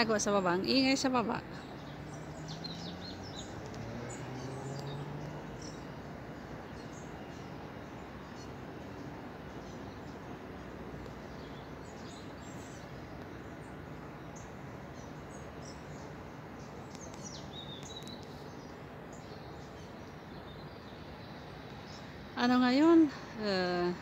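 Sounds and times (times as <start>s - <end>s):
outdoor background hiss: 0.0s - 24.0s
small birds chirping: 0.0s - 24.0s.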